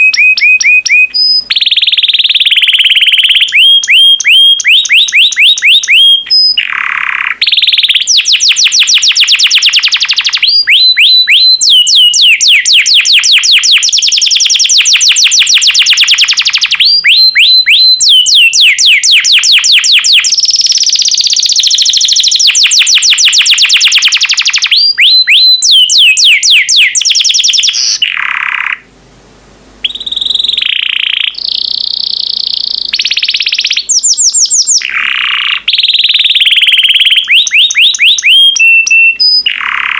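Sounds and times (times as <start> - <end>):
canary singing rapid trills: 0.0 - 28.9, 29.8 - 39.9.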